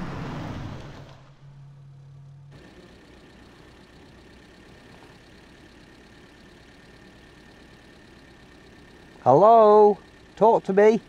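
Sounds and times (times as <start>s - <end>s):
car driving away: 0.0s - 10.6s
engine and road noise in car cabin: 0.0s - 11.0s.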